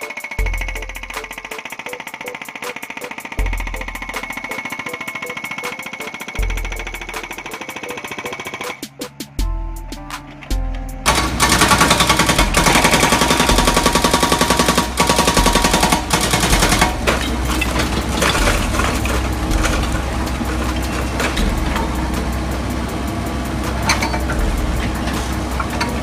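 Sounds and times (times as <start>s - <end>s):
hydraulic breaker hammering rock: 0.0s - 8.8s, 11.1s - 26.0s
excavator engine running: 0.2s - 26.0s.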